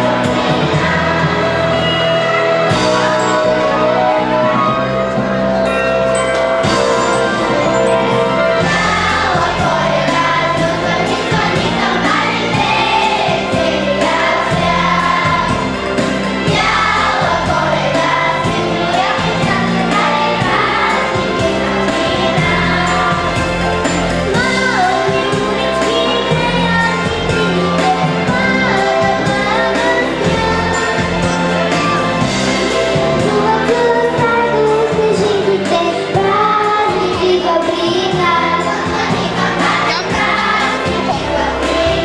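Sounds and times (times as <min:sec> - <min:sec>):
children's choir singing: 0:00.0 - 0:42.0
instrumental backing: 0:00.0 - 0:42.0.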